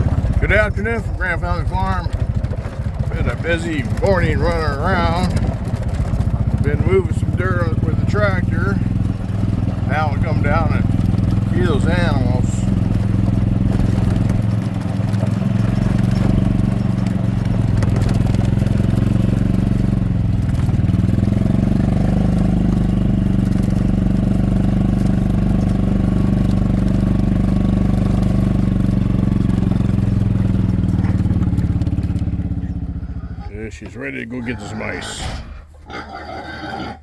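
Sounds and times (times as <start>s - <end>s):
vehicle engine running: 0.0s - 35.8s.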